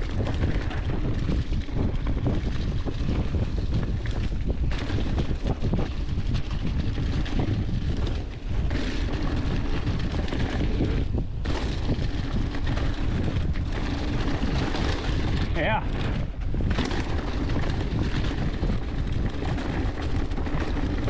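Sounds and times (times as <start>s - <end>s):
bike rattling: 0.0s - 21.0s
wind buffeting microphone: 0.0s - 21.0s.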